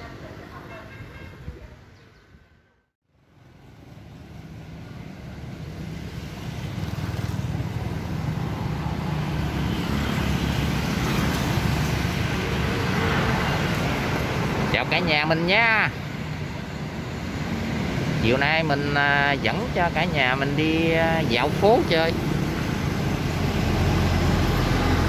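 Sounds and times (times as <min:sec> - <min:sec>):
road traffic engine rumble: 0:03.1 - 0:25.0.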